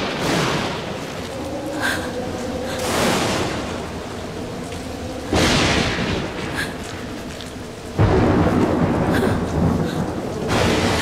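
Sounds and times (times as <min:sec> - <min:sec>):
rain: 0:00.0 - 0:11.0
thunder crashing and rumbling: 0:00.0 - 0:11.0.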